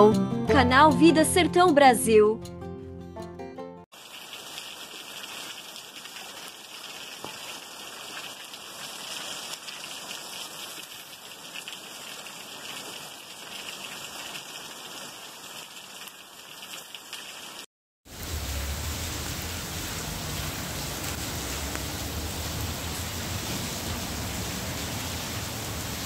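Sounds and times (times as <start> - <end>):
rain falling: 4.0 - 26.0.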